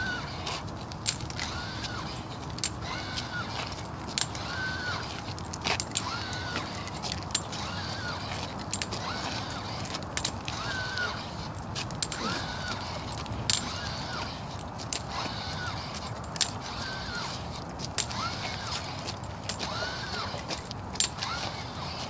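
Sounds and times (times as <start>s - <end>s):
crutch tips clicking on pavement: 0.0s - 22.0s
exoskeleton motors whining: 0.0s - 22.0s.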